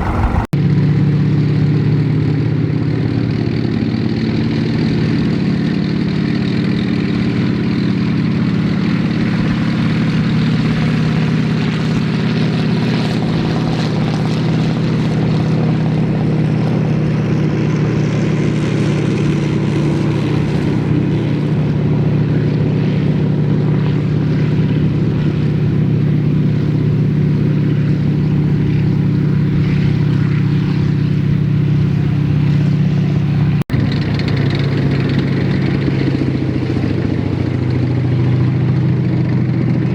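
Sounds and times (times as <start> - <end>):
heavy vehicle engine droning: 0.0 - 39.9.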